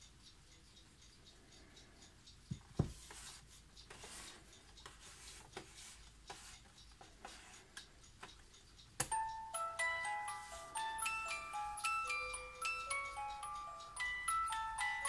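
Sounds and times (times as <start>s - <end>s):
clock ticking faintly: 0.0s - 15.0s.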